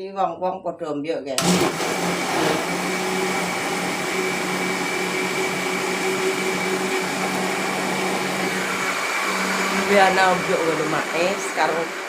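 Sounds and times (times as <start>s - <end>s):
electric blender running: 1.4s - 12.0s.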